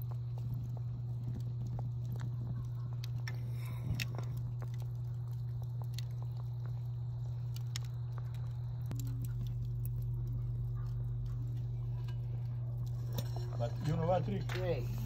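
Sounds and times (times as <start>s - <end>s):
steady low hum: 0.0s - 15.0s
wood coals popping and crackling: 0.0s - 15.0s.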